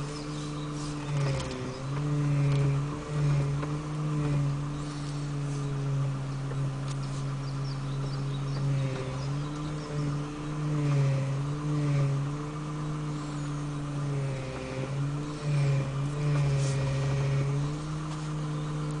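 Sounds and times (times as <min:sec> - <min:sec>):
steering rack humming drone: 0:00.0 - 0:19.0.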